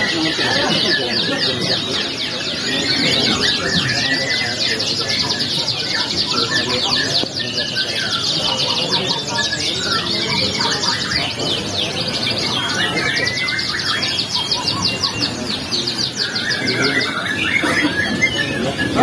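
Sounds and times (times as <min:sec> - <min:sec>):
canaries singing: 0:00.0 - 0:19.0.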